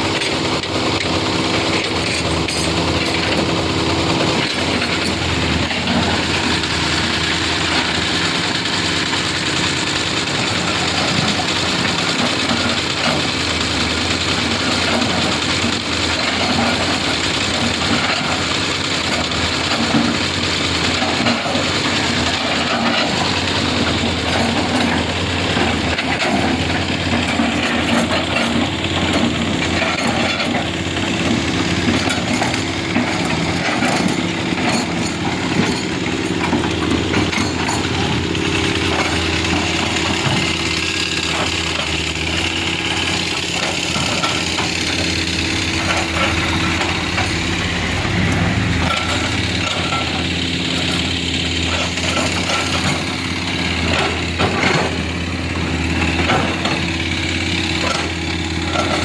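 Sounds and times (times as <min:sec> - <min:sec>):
heavy machinery engines running: 0:00.0 - 0:59.0.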